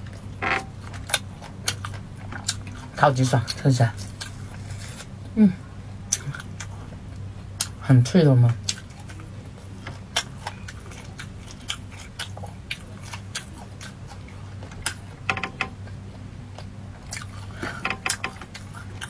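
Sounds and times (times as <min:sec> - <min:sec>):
chewing sausage: 0:00.0 - 0:05.4, 0:06.1 - 0:07.8, 0:08.5 - 0:19.0.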